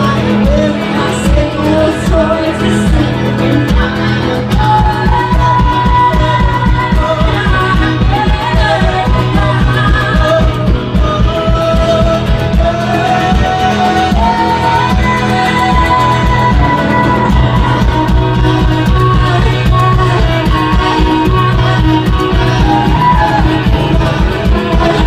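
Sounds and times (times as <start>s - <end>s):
pop-rock song with singing: 0.0s - 25.0s.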